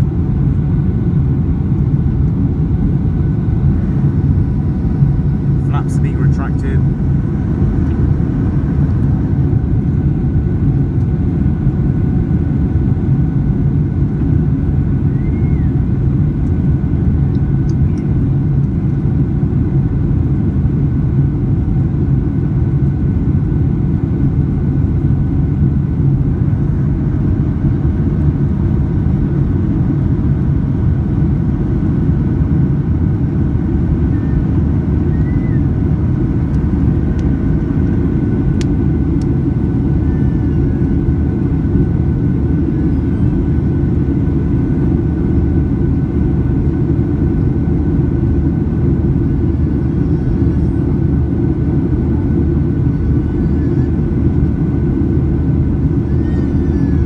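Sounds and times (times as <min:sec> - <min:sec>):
aircraft cabin engine roar: 0:00.0 - 0:57.0
faint steady whining tones: 0:00.0 - 0:57.0.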